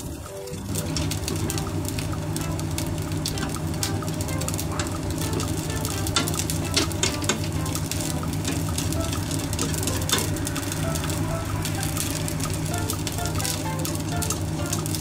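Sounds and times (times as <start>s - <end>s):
steady low hum: 0.0s - 14.9s
stir-fry sizzling: 0.0s - 15.0s
utensil clicking against pan: 0.0s - 15.0s.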